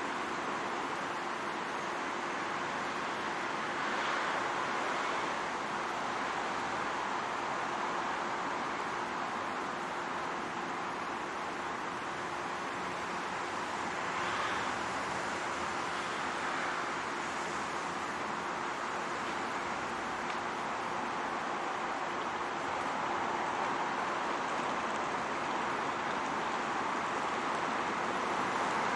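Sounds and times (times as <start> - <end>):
bicycle riding wind and road noise: 0.0 - 28.9
faint steady hum: 0.0 - 28.9.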